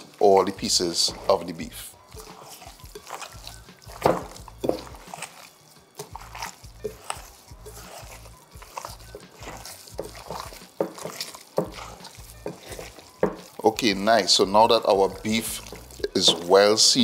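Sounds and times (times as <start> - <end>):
hands squelching meat: 0.0 - 17.0
soft background music: 0.0 - 17.0.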